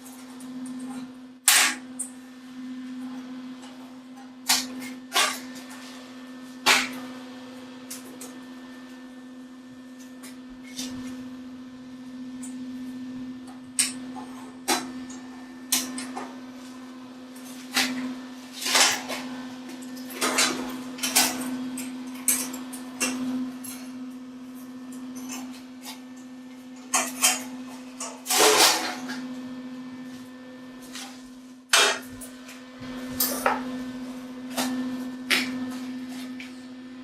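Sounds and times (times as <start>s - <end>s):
electrical hum: 0.0s - 37.0s.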